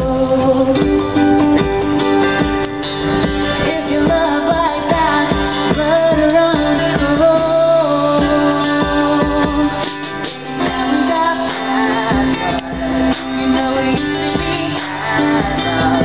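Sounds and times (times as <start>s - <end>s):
woman singing: 0.0s - 1.2s, 3.5s - 16.0s
strummed acoustic guitars: 0.0s - 16.0s
ukulele strumming: 0.3s - 16.0s.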